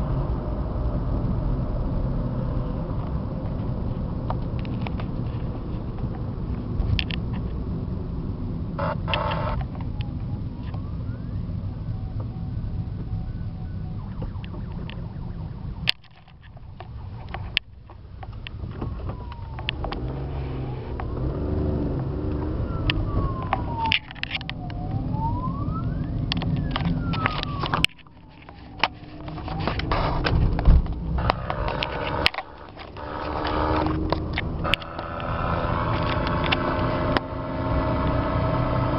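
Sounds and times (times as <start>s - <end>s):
road and engine noise in car: 0.0s - 38.9s.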